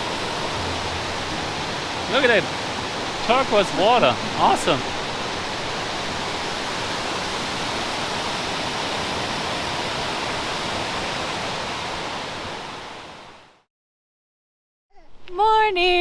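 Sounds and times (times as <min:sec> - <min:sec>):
flowing river water: 0:00.0 - 0:13.6.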